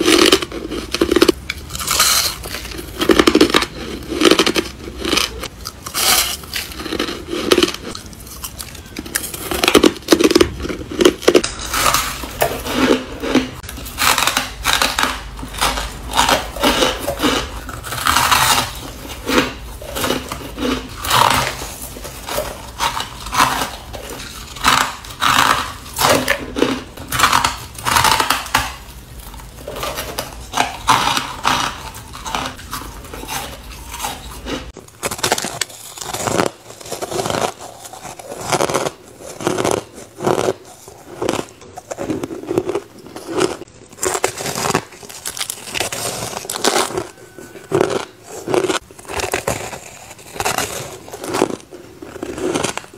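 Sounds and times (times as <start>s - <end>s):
chewing crunchy ice: 0.0s - 52.9s.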